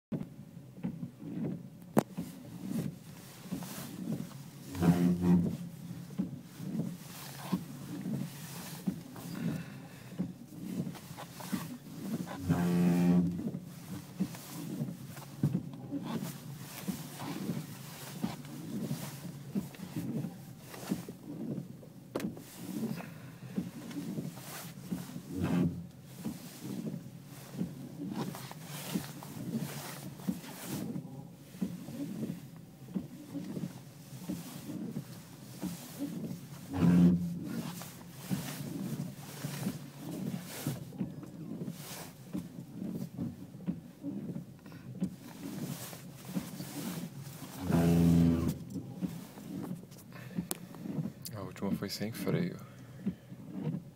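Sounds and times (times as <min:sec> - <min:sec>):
steering creaking and groaning: 0:00.3 - 0:53.9.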